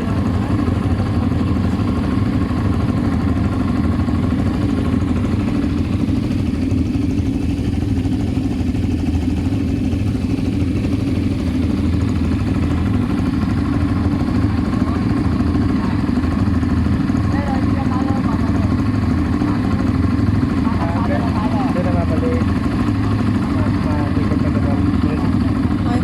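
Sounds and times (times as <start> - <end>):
atv engine running steadily: 0.0 - 26.0.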